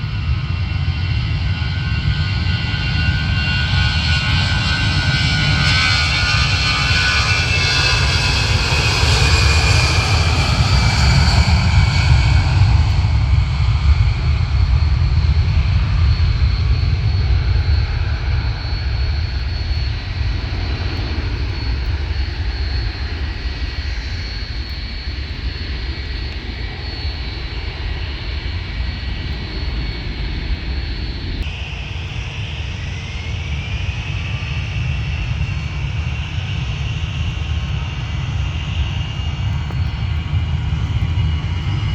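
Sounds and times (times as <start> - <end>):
jet engines roaring: 0.0 - 41.9
jet engines spooling up: 0.0 - 41.9.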